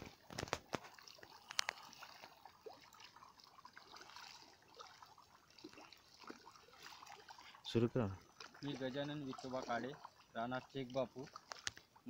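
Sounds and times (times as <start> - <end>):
faint water splashing: 0.0 - 12.0.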